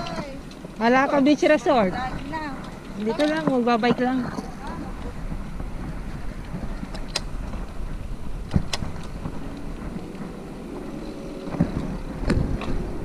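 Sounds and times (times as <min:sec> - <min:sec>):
bicycle riding rumble: 0:00.0 - 0:13.0
bike clicks: 0:00.0 - 0:13.0
wind buffeting microphone: 0:00.0 - 0:13.0.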